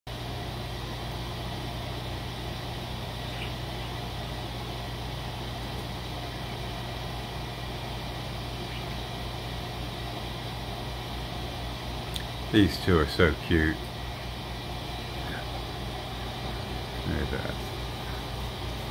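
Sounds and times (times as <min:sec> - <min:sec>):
machine humming: 0:00.1 - 0:18.9.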